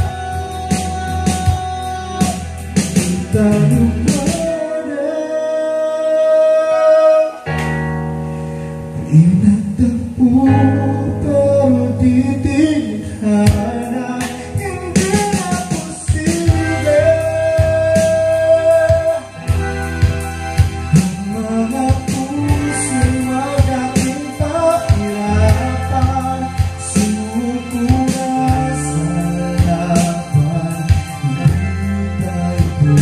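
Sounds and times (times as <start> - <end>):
steady bass: 0.0 - 6.4, 7.4 - 33.0
guitar-led backing track: 0.0 - 33.0
person singing melody: 0.0 - 33.0.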